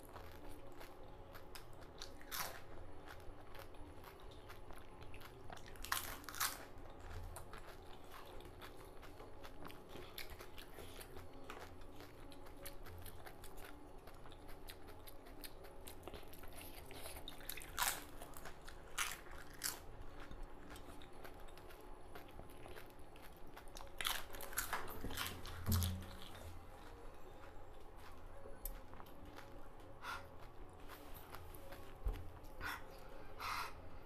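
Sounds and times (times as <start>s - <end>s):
crunchy chewing: 0.0s - 33.8s.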